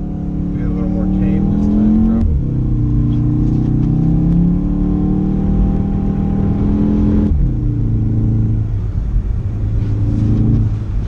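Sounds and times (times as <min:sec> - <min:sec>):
car engine under throttle: 0:00.0 - 0:11.0.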